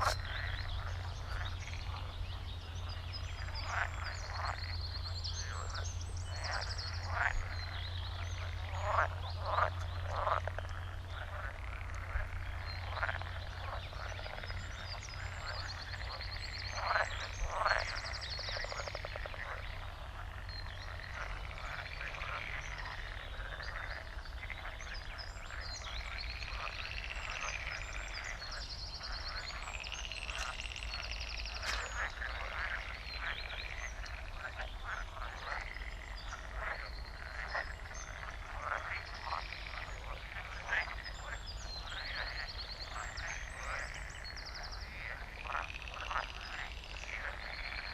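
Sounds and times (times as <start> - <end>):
frogs croaking: 0.0 - 47.9
small birds chirping faintly: 0.0 - 47.9.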